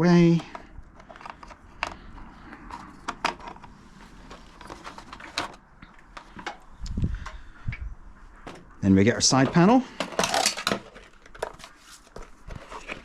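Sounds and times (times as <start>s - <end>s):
hands handling plastic parts: 0.2s - 7.4s, 9.3s - 13.0s.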